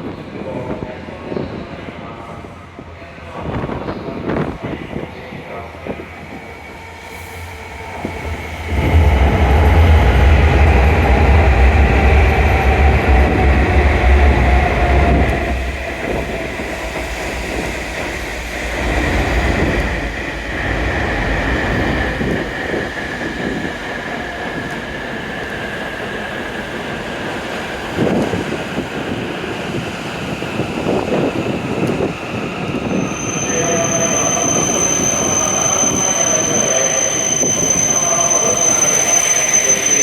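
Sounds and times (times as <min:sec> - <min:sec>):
train heavy rumble: 0:00.0 - 0:39.0.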